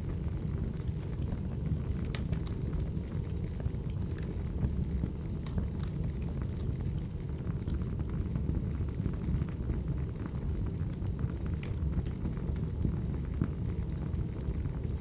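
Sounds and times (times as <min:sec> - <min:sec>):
wood fire roaring: 0:00.0 - 0:15.0
logs crackling and popping: 0:00.1 - 0:15.0.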